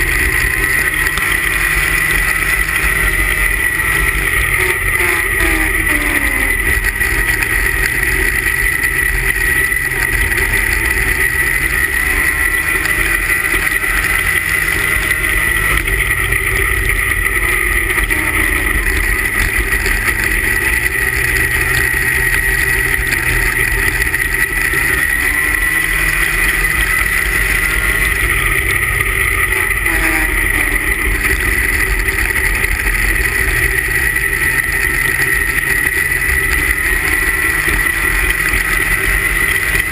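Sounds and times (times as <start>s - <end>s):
high whine: 0.0s - 39.9s
snowmobile engine running hard: 0.0s - 39.9s.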